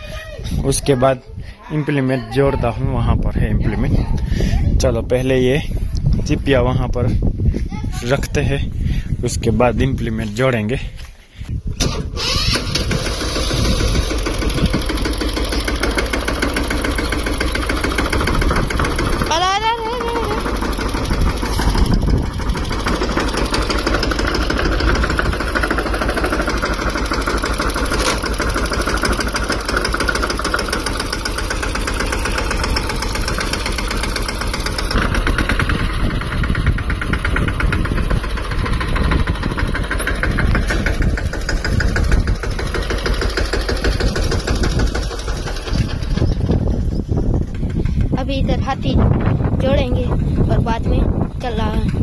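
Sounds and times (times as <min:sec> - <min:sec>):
tractor diesel engine running: 0:02.2 - 0:52.0.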